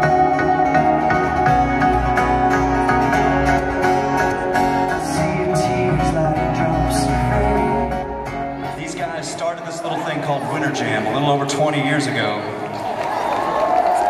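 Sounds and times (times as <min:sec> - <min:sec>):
live band playing: 0:00.0 - 0:12.4.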